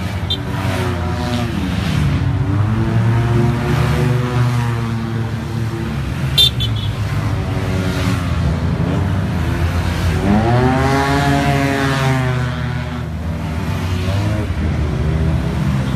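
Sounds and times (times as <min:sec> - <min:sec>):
cars passing: 0:00.0 - 0:15.9.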